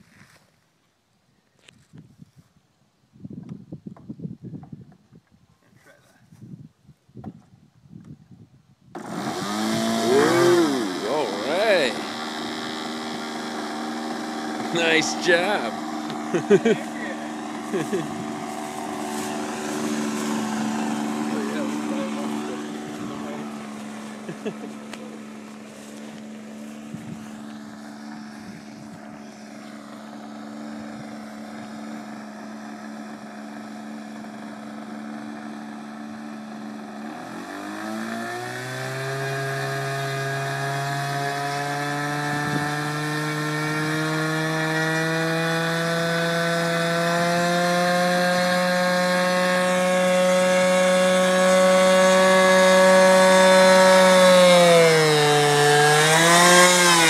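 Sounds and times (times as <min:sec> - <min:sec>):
model aircraft engine buzzing: 0:08.9 - 0:57.0.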